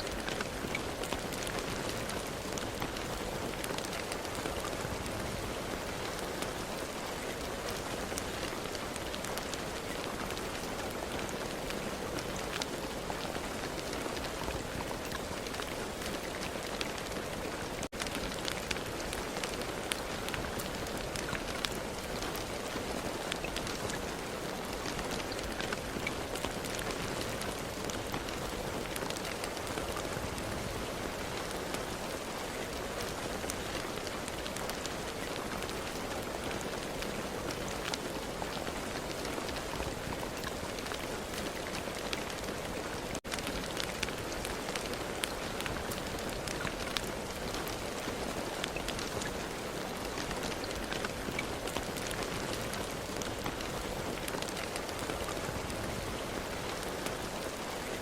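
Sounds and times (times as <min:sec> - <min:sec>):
raindrops ticking on a surface: 0:00.0 - 0:58.0
steady rain falling: 0:00.0 - 0:58.0.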